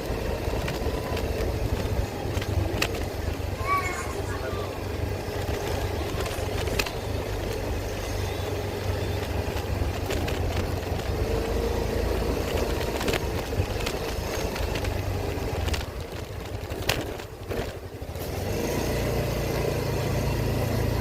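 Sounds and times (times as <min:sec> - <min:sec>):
scooter engine hum: 0:00.0 - 0:21.0
wind and road noise: 0:00.0 - 0:21.0.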